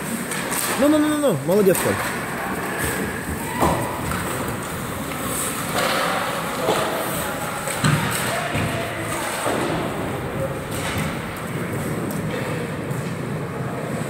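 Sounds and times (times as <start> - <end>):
skates scraping ice: 0.0 - 14.0.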